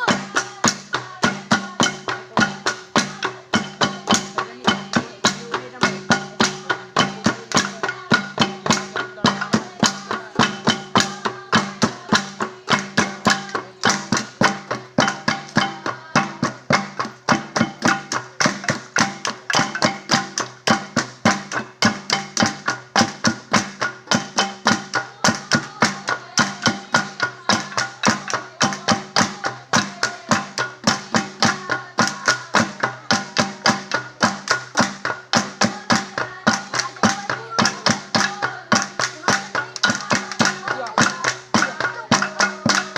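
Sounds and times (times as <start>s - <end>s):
bronze gongs struck in rhythm: 0.0s - 42.9s.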